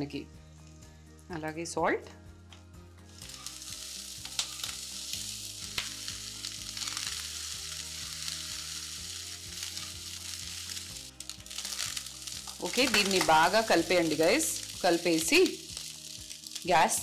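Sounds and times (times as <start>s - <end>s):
rice and vegetables sizzling in pan: 3.1s - 17.0s.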